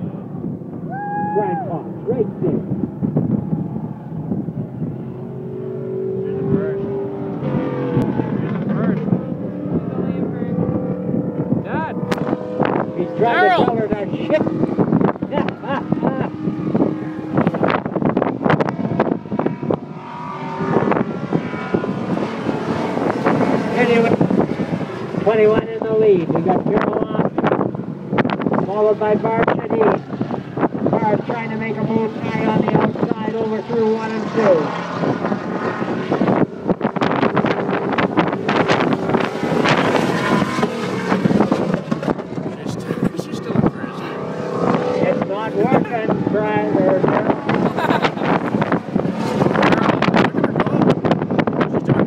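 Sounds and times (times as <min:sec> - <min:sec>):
race car engines surging: 0:00.0 - 0:52.0
wind buffeting microphone: 0:00.0 - 0:52.0.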